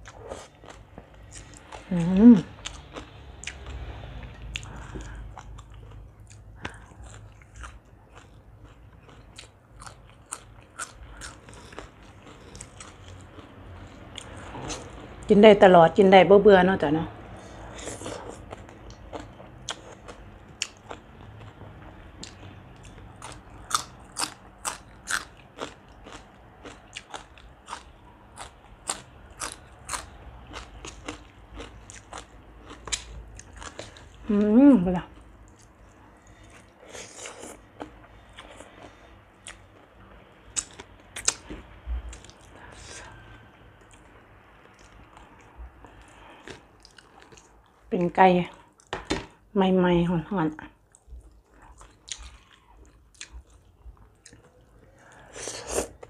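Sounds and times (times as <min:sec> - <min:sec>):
person chewing crunchy food: 0:00.0 - 0:15.0, 0:17.6 - 0:34.3, 0:35.1 - 0:47.8, 0:50.8 - 0:56.0.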